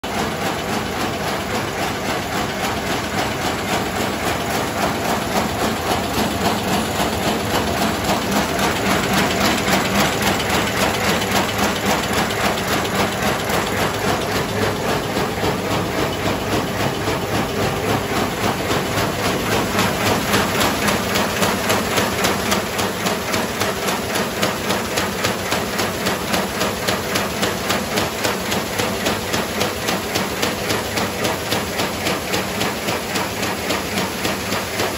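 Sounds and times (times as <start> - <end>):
paper bag machine clattering: 0.1 - 34.9.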